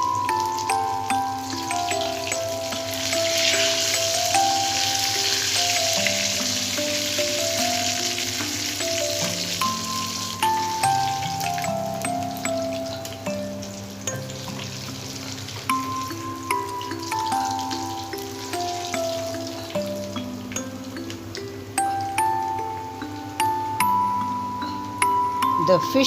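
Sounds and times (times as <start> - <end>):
fish frying in hot oil: 0.0 - 24.2
background melody: 0.0 - 26.0.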